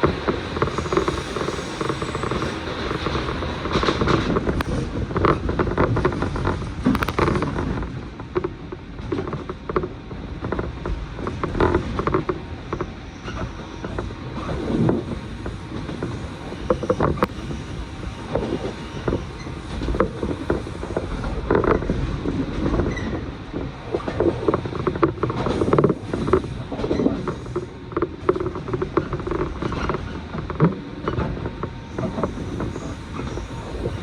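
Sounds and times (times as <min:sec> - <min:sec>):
train car creaks and rattles: 0:00.0 - 0:34.0
train rumble: 0:00.0 - 0:34.0.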